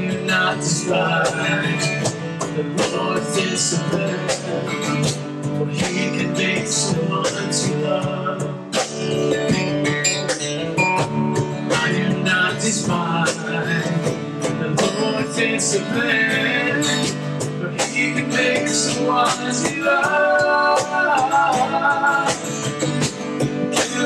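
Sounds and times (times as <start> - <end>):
men singing: 0.0 - 8.8, 11.6 - 24.0
acoustic guitar strumming: 0.0 - 24.0
cajon beat: 0.0 - 24.0.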